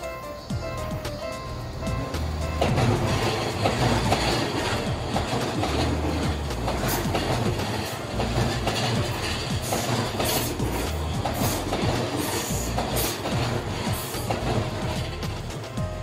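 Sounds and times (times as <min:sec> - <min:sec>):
train rumbling past: 0:00.0 - 0:16.0
wheels clicking over rail joints: 0:00.0 - 0:16.0.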